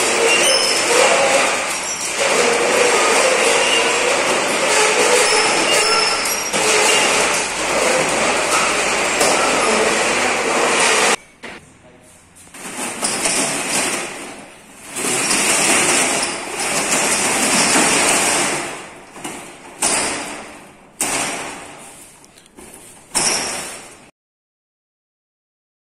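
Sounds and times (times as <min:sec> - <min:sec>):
roller shutter door rattling: 0:00.0 - 0:11.2, 0:12.5 - 0:22.1, 0:22.7 - 0:24.1.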